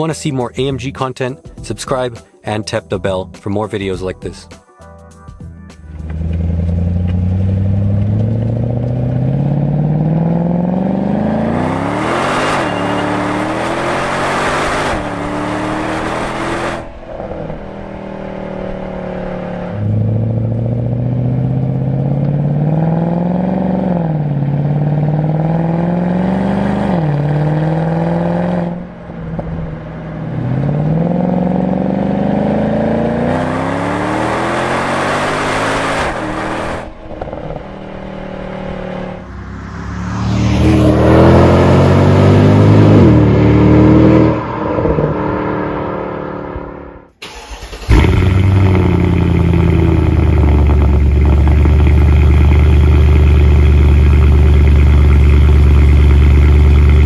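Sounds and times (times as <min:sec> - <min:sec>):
car engine accelerating through gears: 0:05.8 - 0:57.0.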